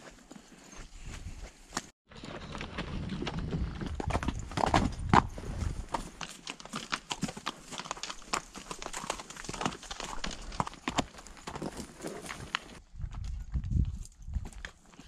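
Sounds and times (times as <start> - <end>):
hooves clopping on rock: 0.0 - 15.0.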